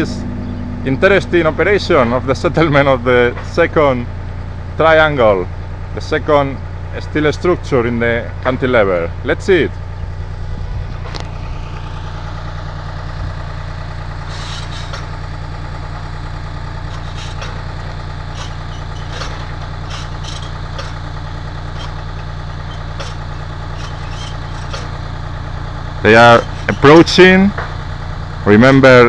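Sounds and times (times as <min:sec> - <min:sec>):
machinery engine humming: 0:00.0 - 0:29.0.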